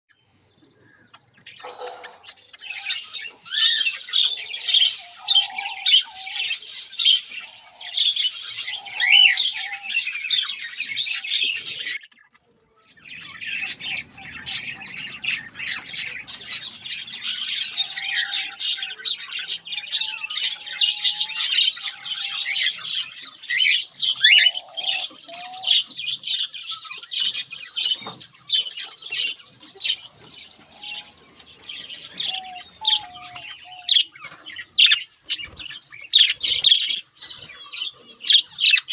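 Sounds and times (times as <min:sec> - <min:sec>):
aviary birds chirping and squawking: 0:00.6 - 0:38.9.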